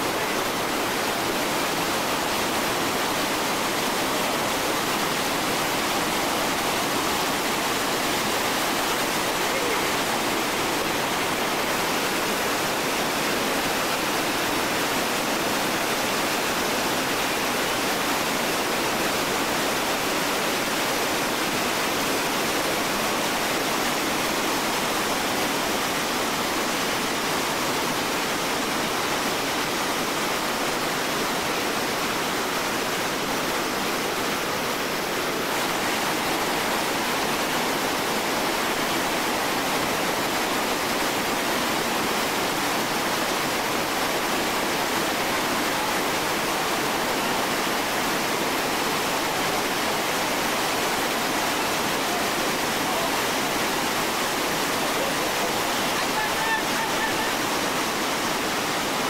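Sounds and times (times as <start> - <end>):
whitewater rapid rushing: 0.0 - 59.0.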